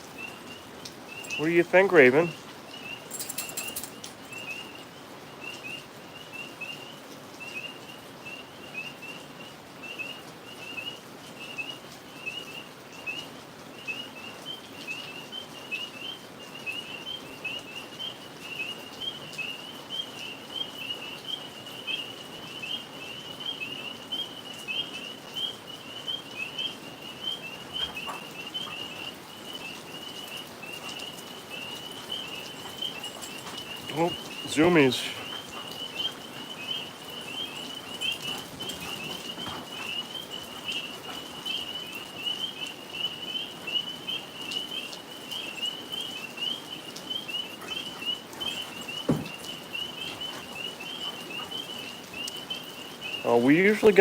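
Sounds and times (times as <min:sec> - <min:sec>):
tree frogs chirping: 0:00.0 - 0:54.0.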